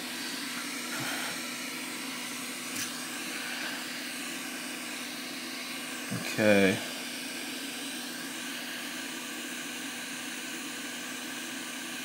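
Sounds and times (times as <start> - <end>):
hot-air blower hissing: 0.0 - 12.0.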